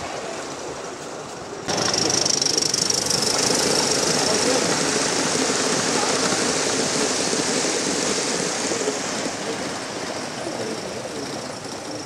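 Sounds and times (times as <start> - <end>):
model steam train hissing: 1.7 - 12.0.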